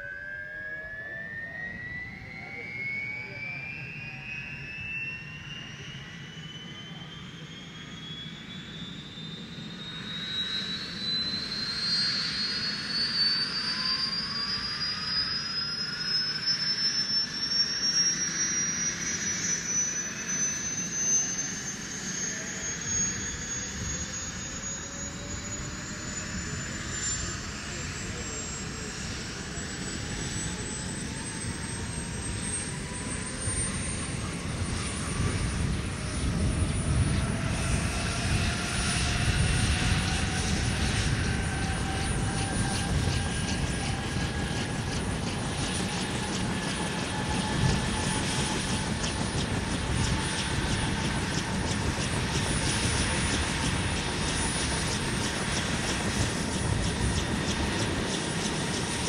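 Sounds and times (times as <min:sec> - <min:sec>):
helicopter rotor rumble: 0:00.0 - 0:59.0
helicopter turbine whine: 0:00.0 - 0:59.0.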